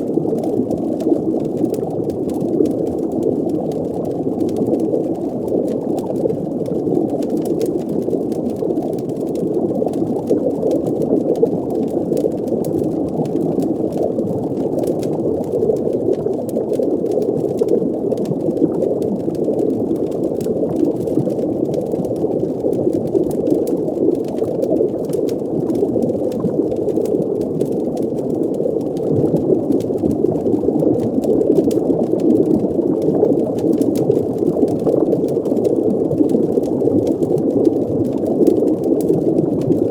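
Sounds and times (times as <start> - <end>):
faint crackles: 0.0 - 39.9
muffled rush of water and bubbling: 0.0 - 39.9.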